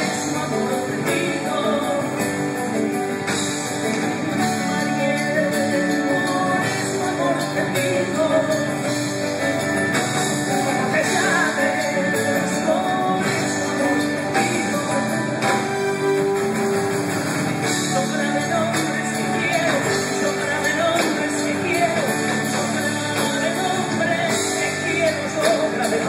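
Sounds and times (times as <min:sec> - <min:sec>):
acoustic guitars: 0:00.0 - 0:26.0
bass: 0:00.0 - 0:26.0
drum kit: 0:00.0 - 0:26.0
grand piano: 0:00.0 - 0:26.0.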